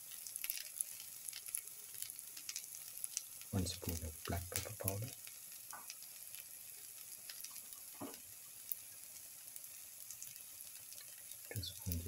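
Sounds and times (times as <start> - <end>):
oil sizzling with frying onions: 0.0 - 12.0
small crackles: 0.0 - 12.0.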